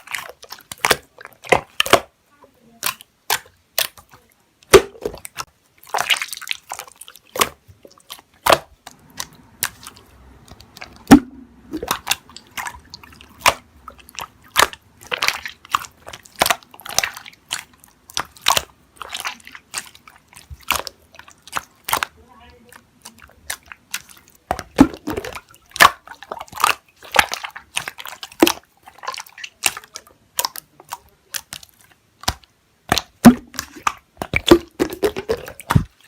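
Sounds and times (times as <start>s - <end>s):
slime clicking and popping: 0.0s - 2.1s, 2.7s - 36.0s
wet slime squishes: 0.0s - 36.0s.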